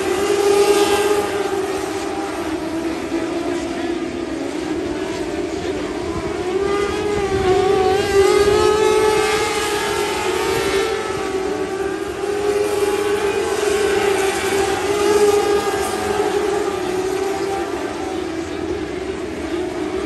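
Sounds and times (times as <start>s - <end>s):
racing car engines whining: 0.0s - 20.0s.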